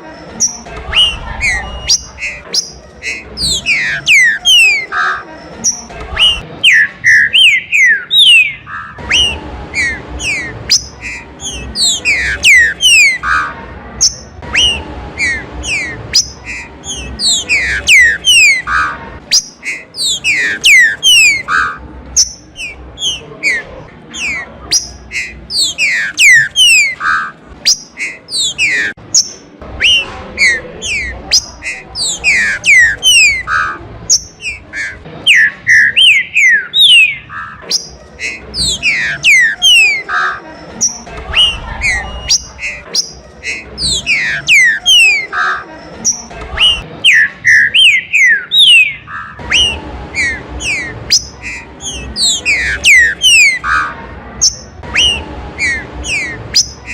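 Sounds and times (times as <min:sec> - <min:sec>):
birds singing whistles: 0:00.4 - 0:56.9.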